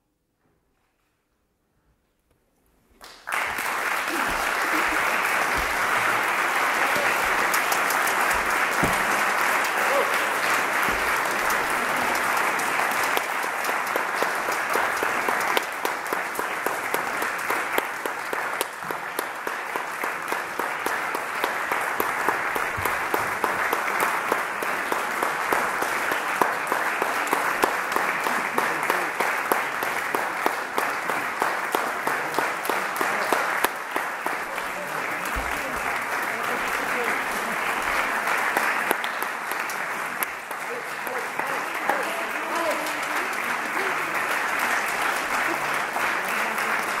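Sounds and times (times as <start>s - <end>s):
audience applauding: 3.0s - 47.0s.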